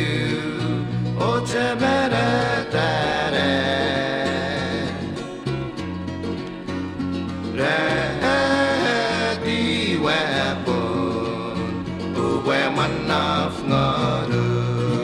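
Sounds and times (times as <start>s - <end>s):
person singing song: 0.0s - 5.5s, 7.5s - 15.0s
bass line: 0.0s - 15.0s
guitar: 0.0s - 15.0s.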